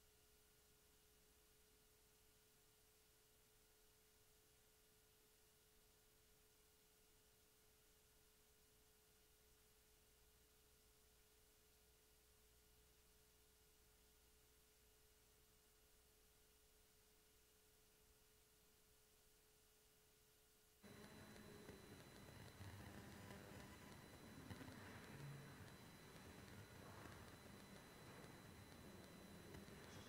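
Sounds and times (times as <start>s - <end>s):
faint steady tone: 0.0s - 30.0s.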